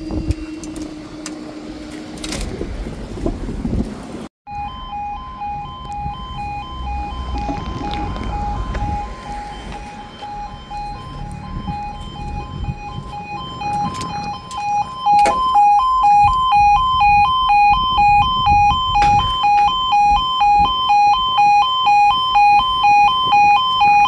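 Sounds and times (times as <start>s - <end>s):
level crossing alarm warbling: 4.5s - 24.0s.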